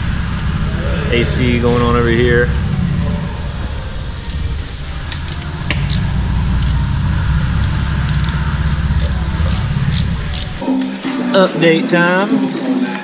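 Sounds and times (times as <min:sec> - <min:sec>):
motor rumbling: 0:00.0 - 0:10.6.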